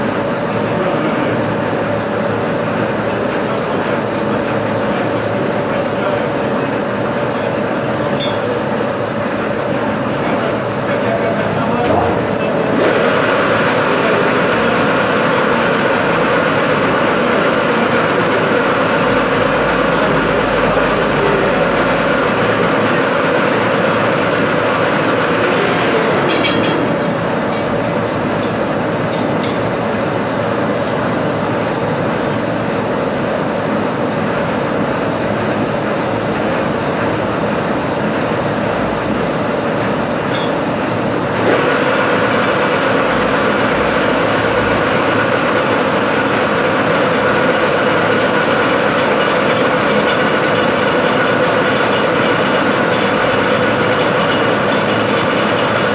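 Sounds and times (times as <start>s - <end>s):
metalworking machine running: 0.0s - 55.9s.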